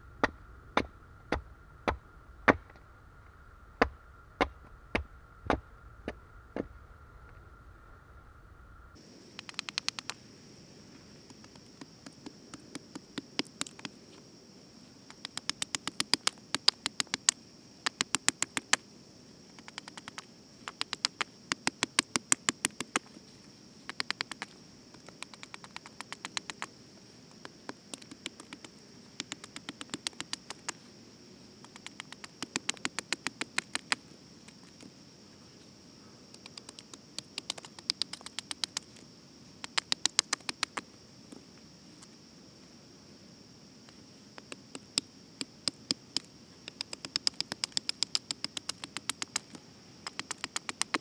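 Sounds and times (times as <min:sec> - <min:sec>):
thin high hiss: 0:00.0 - 0:45.6.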